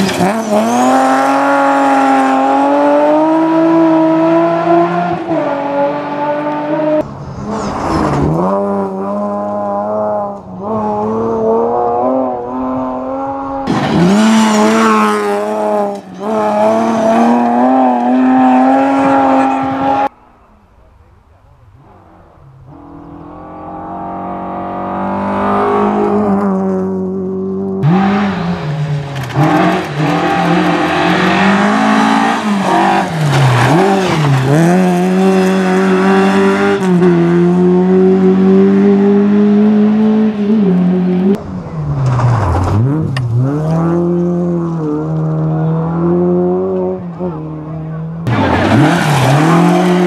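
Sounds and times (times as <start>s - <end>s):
rally car engine revving: 0.0s - 20.1s, 21.8s - 50.0s.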